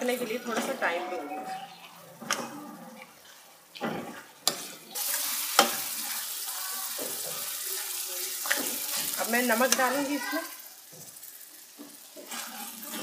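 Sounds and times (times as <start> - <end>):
frying sizzle: 0.0 - 1.0, 3.2 - 13.0.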